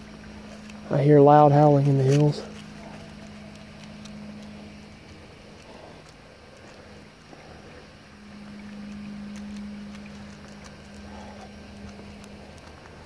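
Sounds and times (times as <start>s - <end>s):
aircraft engine hum: 0.0s - 13.0s.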